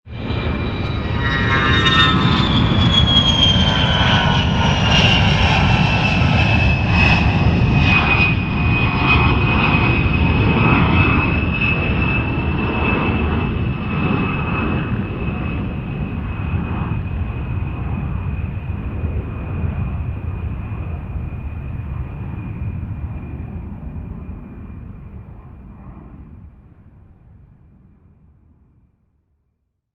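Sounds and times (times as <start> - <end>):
jet flying past: 0.1 - 27.6.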